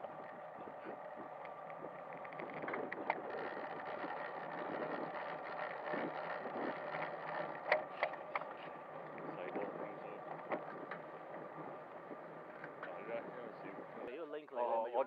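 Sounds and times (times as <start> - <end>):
bicycle tyre and drivetrain noise: 0.0 - 15.0
wind: 0.0 - 15.0.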